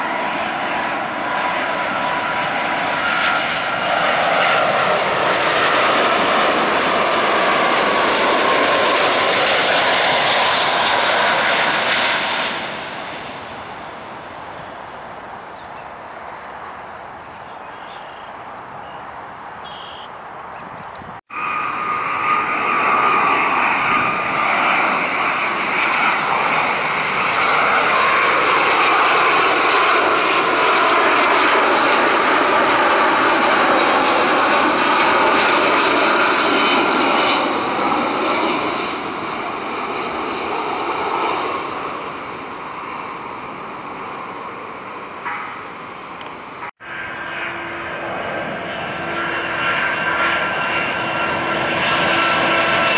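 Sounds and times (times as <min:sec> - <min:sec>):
jet engines roaring past: 0:00.0 - 0:52.9.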